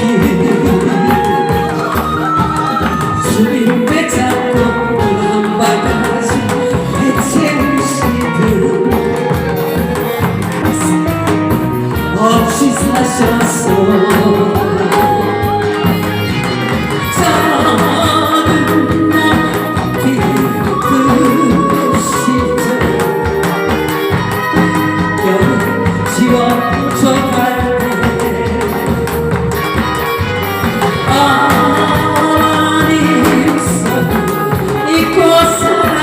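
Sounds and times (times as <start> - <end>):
person singing with backing band: 0.0 - 36.0.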